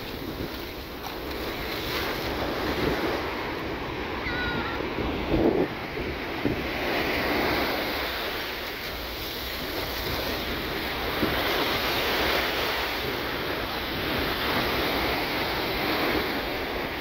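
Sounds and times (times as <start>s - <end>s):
small waves breaking on sand: 0.0s - 17.0s
wind on microphone: 0.0s - 17.0s.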